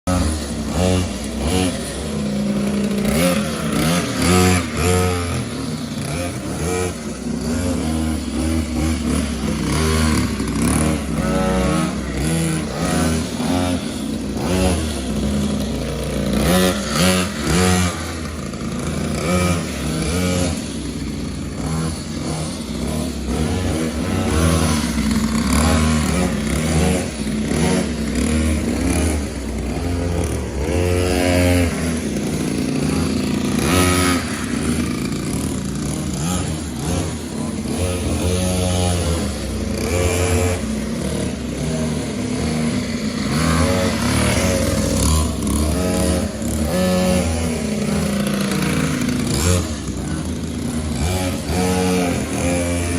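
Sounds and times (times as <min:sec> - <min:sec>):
mini motorbike engines revving: 0:00.0 - 0:52.9.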